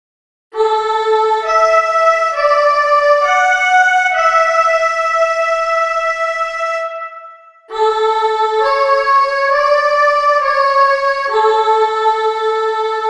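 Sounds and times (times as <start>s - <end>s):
electronic keyboard chords: 1.0s - 13.0s.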